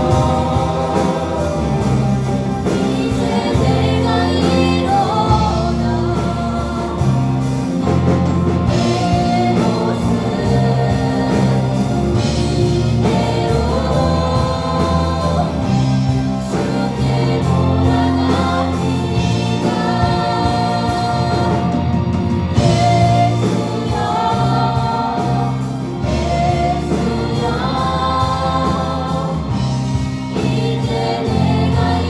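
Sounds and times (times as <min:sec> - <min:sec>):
group singing a worship song: 0:00.0 - 0:32.0
instrumental accompaniment with bass: 0:00.0 - 0:32.0.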